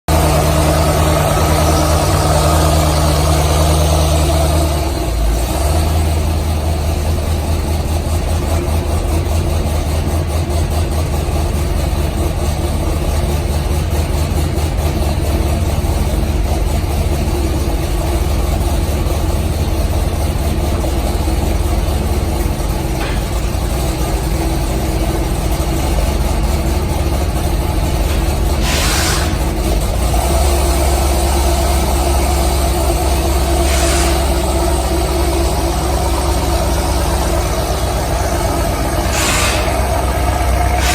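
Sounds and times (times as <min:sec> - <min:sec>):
vehicle engine idling: 0:00.1 - 0:40.9.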